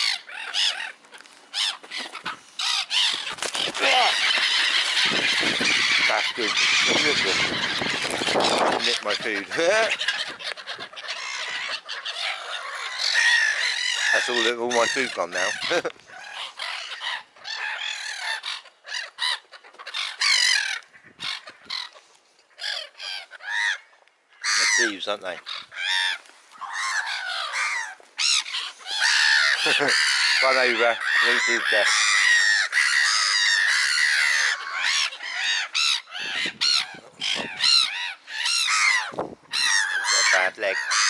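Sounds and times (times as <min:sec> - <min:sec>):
flock of birds squawking: 0:00.0 - 0:41.0
gulls calling: 0:00.0 - 0:41.0.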